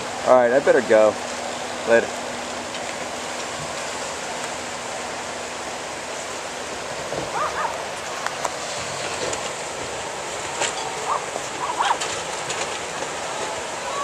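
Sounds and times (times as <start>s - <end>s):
rushing surge water: 0.0s - 14.0s.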